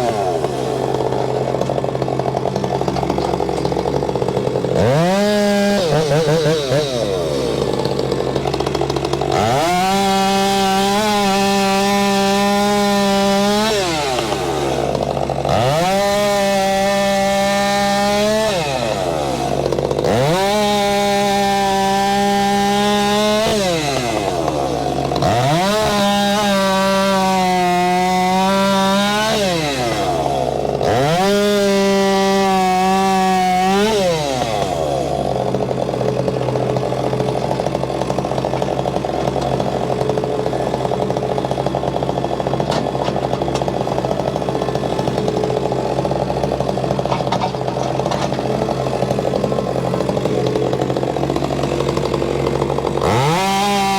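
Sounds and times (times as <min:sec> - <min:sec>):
chainsaw revving and cutting logs: 0:00.0 - 0:53.9.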